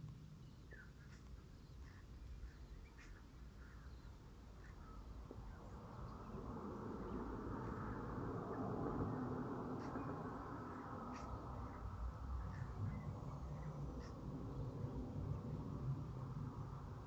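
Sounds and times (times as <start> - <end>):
bird chirps: 0.0 - 14.9
low rumble: 0.0 - 17.0
rush of noise: 0.7 - 17.0.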